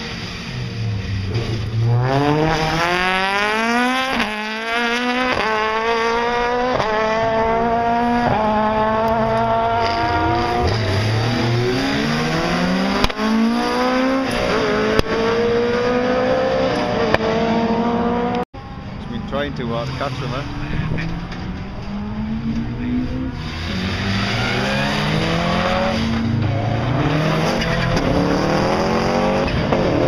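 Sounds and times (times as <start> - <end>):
rally car engine accelerating: 0.0 - 30.0.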